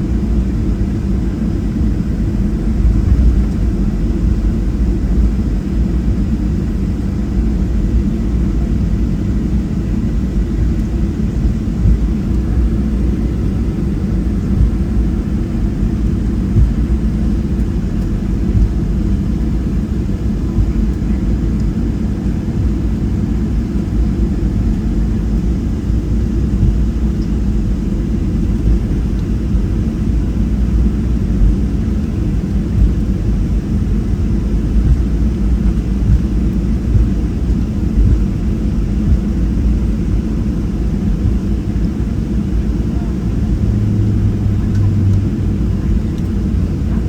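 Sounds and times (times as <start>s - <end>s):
aircraft cabin low rumble: 0.0s - 47.0s
low hum: 0.0s - 47.0s.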